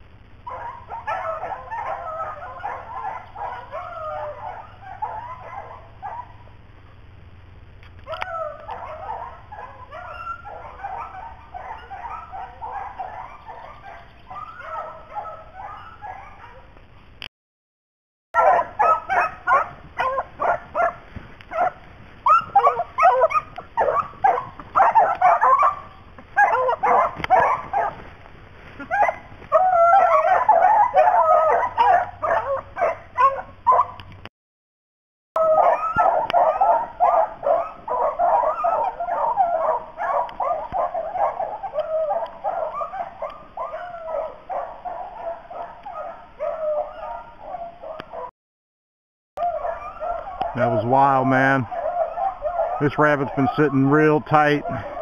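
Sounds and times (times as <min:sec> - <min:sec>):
hounds baying and yelping: 0:00.4 - 0:06.7, 0:07.9 - 0:17.0, 0:18.4 - 0:34.2, 0:35.4 - 0:48.3, 0:49.4 - 0:55.0.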